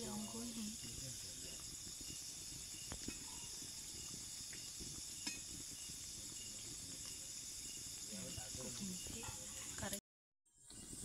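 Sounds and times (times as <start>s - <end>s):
faint insect chirping: 0.0s - 10.0s, 10.6s - 11.0s
oil sizzling: 0.0s - 10.0s.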